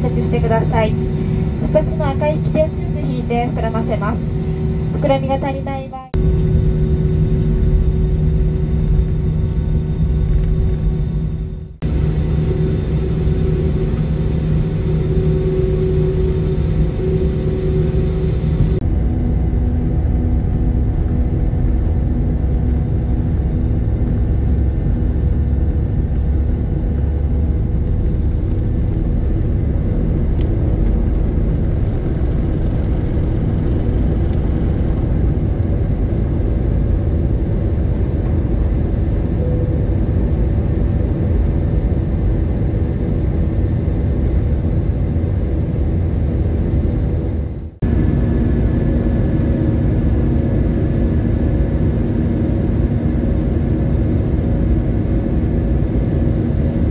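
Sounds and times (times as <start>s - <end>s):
jet engine rumble in cabin: 0.0s - 56.9s.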